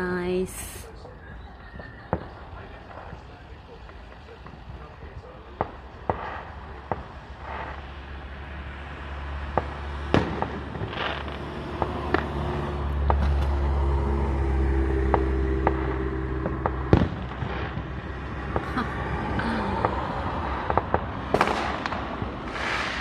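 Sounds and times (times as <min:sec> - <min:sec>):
fireworks bangs and pops: 0:00.5 - 0:13.9, 0:15.0 - 0:23.0.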